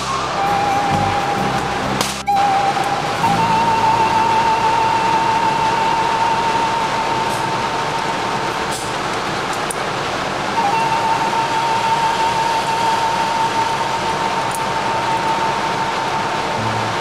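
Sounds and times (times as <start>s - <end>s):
constant high whine: 0.0s - 17.0s
rushing air noise: 0.0s - 17.0s.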